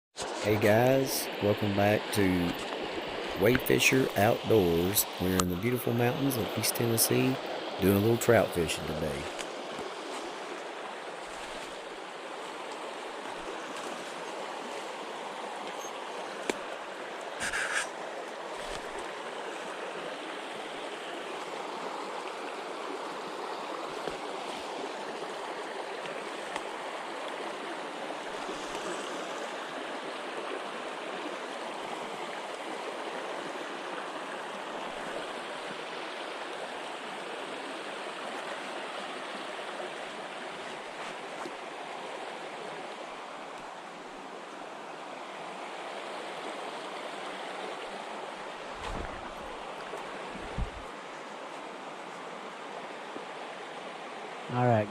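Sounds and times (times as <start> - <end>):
water rushing over rocks: 0.2 - 54.9.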